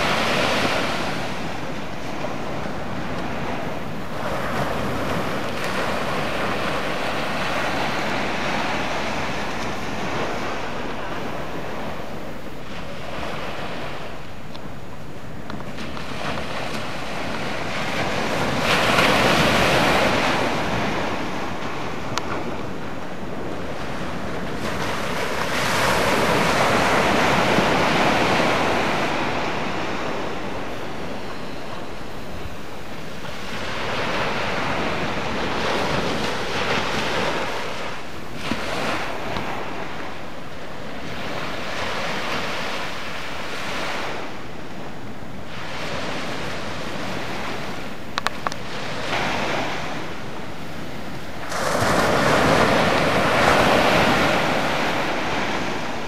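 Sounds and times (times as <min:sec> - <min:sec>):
ocean waves crashing on beach: 0:00.0 - 0:56.0.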